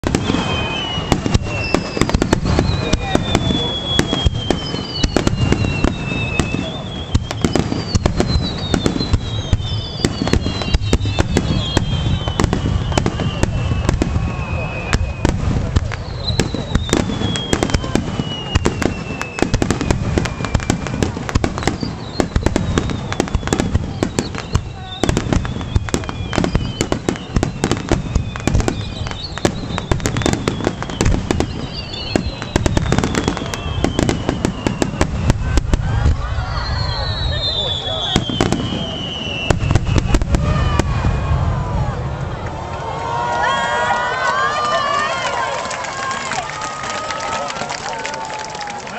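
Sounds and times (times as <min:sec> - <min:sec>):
fireworks bangs and crackles: 0:00.0 - 0:48.9
high descending whistles: 0:00.1 - 0:15.3, 0:15.9 - 0:41.4.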